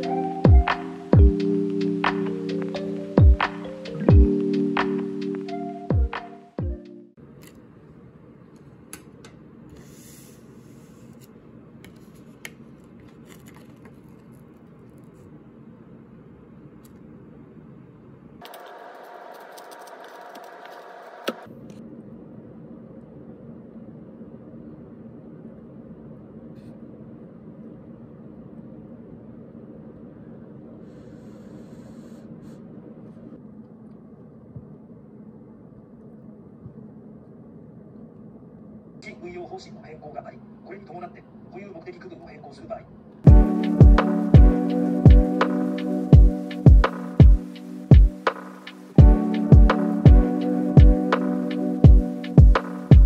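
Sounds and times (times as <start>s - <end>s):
low background hum: 0.0s - 53.0s.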